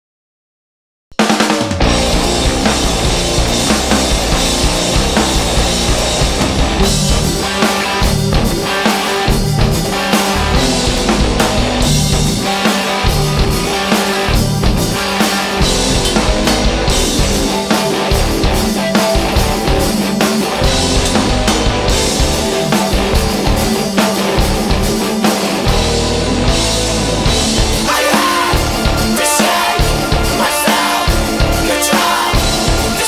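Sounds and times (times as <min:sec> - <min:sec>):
driving drum kit: 0:01.1 - 0:33.0
electric guitar: 0:01.2 - 0:33.0.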